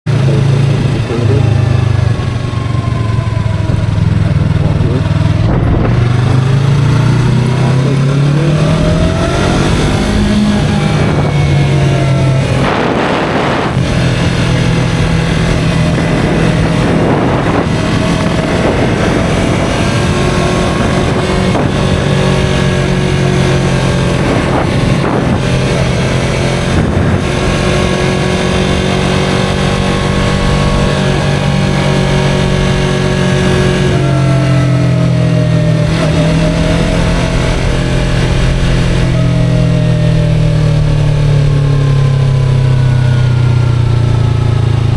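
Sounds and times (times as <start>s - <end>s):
motorcycle engine running: 0.1s - 44.9s
pitched whine: 0.1s - 44.9s.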